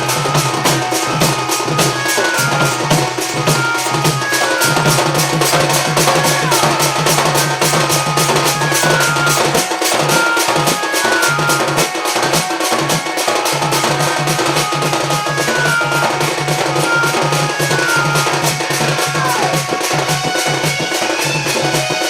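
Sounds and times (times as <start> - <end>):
high melody of short notes: 0.0 - 20.5
drums keeping fast beat: 0.0 - 22.0.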